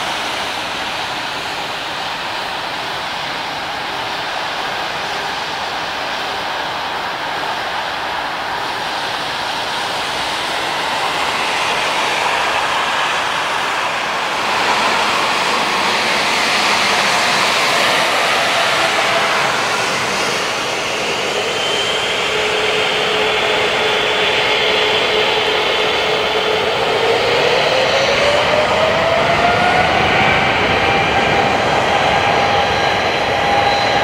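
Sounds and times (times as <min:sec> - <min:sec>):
airliner climbing rumble: 0:00.0 - 0:34.0
jet engine whine: 0:00.0 - 0:34.0
jet engines on runway: 0:00.0 - 0:34.0.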